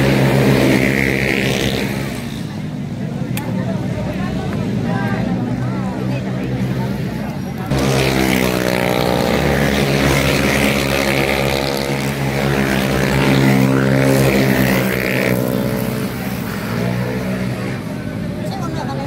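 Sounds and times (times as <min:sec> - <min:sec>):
motorcycle engine at high revs: 0:00.0 - 0:03.6, 0:04.2 - 0:19.0.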